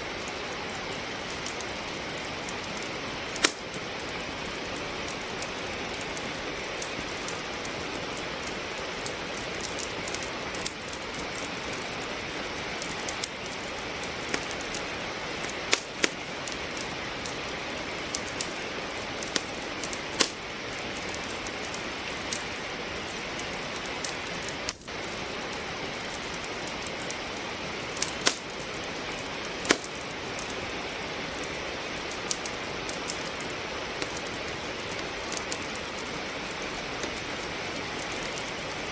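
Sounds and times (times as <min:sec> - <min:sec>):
steady rain hiss: 0:00.0 - 0:38.9
wood fire crackling and popping: 0:00.0 - 0:38.9.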